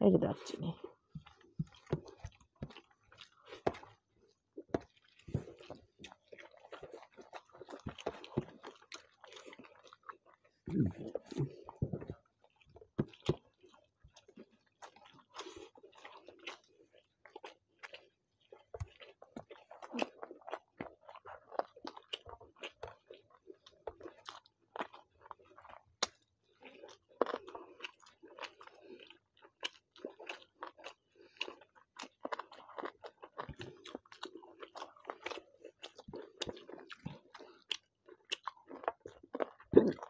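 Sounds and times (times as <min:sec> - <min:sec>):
chewing and mouth smacks: 0:00.6 - 0:40.0.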